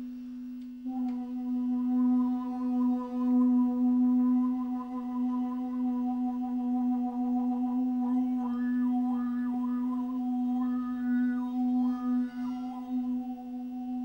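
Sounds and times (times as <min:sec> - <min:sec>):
singing glass bowl tone: 0:00.7 - 0:14.0.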